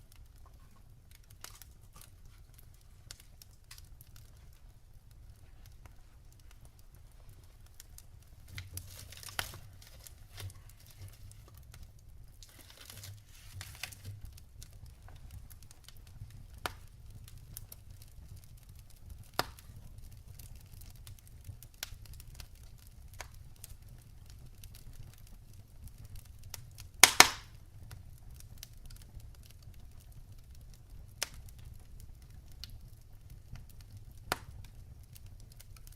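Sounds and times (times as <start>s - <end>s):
fire crackling and popping: 0.0s - 35.9s.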